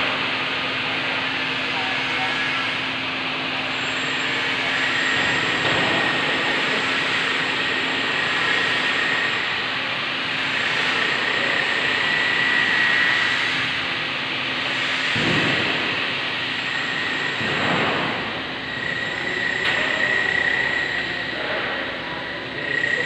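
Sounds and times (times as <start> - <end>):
machinery rushing drone: 0.0 - 23.0.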